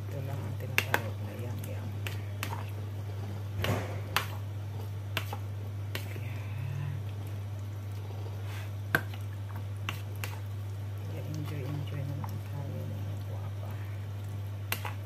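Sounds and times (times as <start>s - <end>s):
low hum: 0.0s - 15.0s
squelching marinade stirring: 0.0s - 15.0s.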